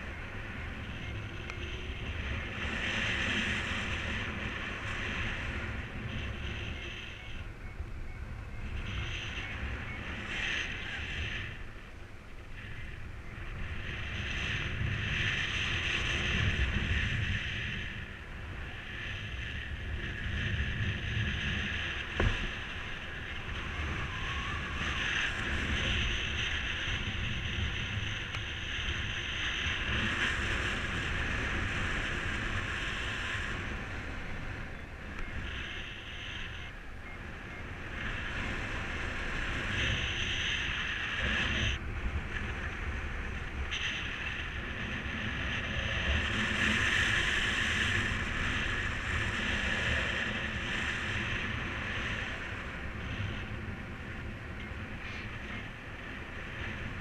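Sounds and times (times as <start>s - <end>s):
high wind whistle: 0.0s - 57.0s
wind buffeting microphone: 0.0s - 57.0s.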